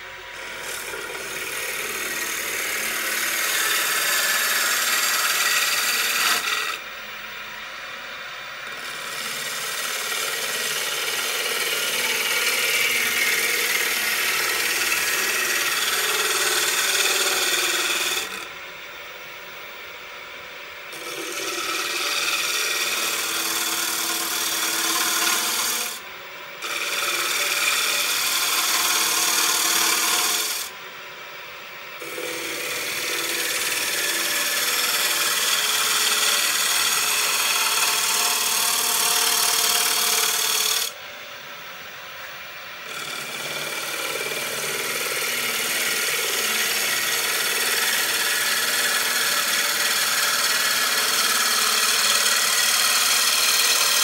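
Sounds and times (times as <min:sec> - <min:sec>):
lathe tool cutting wood: 0:00.0 - 0:18.5, 0:20.9 - 0:26.0, 0:26.6 - 0:30.8, 0:32.0 - 0:41.0, 0:42.8 - 0:54.0.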